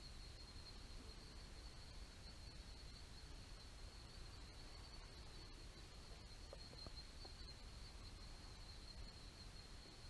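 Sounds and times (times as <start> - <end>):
faint high-pitched insect drone: 0.0 - 10.0
low background hiss and rumble: 0.0 - 10.0.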